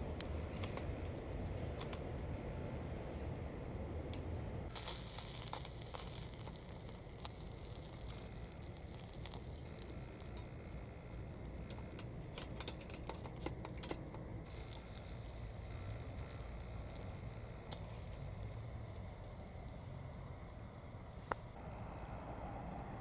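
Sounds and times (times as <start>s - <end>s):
fire crackling and popping: 0.0s - 21.6s
wood fire hissing: 0.0s - 23.0s.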